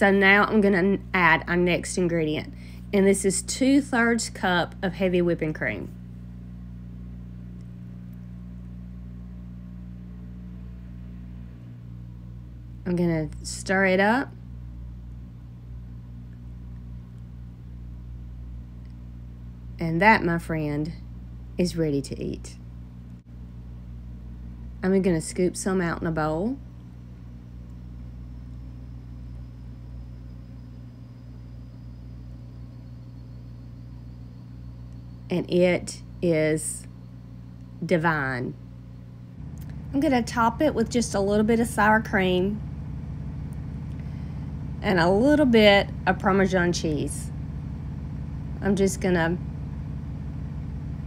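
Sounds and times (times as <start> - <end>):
faint high whine: 0.0 - 51.0
steady low hum: 0.0 - 51.0.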